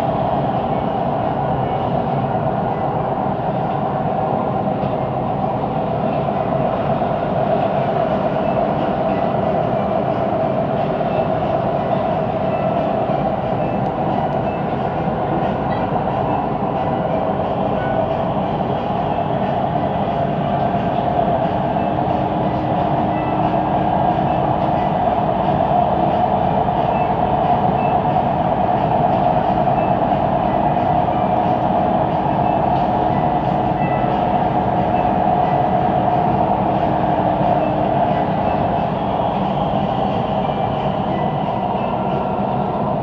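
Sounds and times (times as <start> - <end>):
train rolling noise with hum: 0.0 - 43.0.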